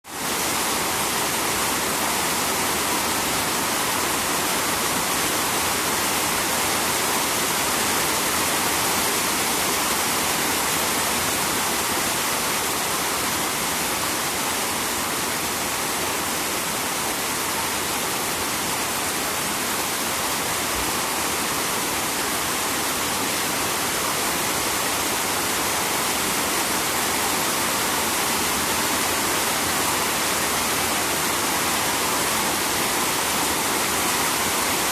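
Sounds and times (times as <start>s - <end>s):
rain and river rushing: 0.0s - 34.9s.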